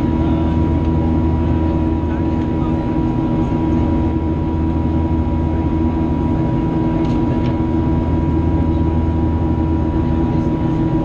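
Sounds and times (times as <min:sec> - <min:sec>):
jet engine drone in cabin: 0:00.0 - 0:11.0.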